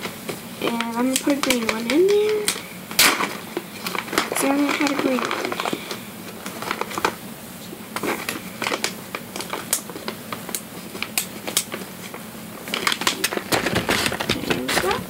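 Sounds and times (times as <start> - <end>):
toy handling clicks and rustles: 0.2 - 7.2, 7.9 - 15.0.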